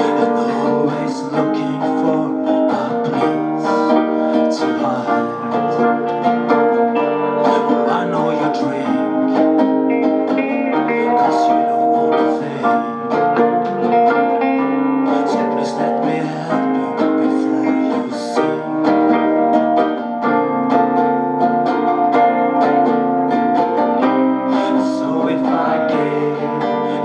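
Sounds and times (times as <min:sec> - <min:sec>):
plucked string instrumental music: 0:00.0 - 0:27.0.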